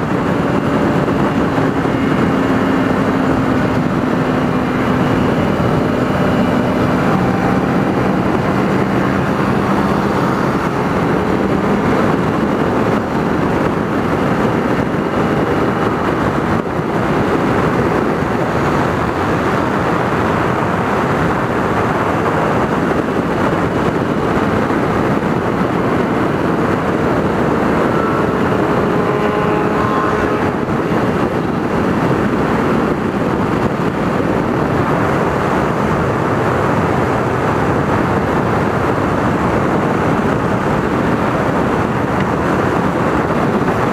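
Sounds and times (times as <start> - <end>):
faint motorcycle engine: 0.0 - 43.9
wind rush over microphone: 0.0 - 43.9.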